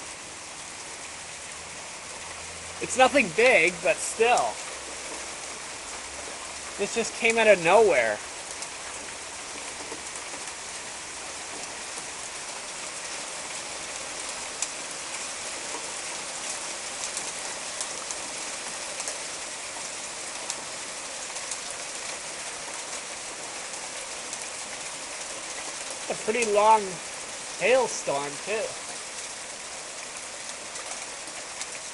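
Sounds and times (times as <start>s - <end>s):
rain hissing: 0.0s - 31.9s
hailstones ticking: 2.8s - 31.9s.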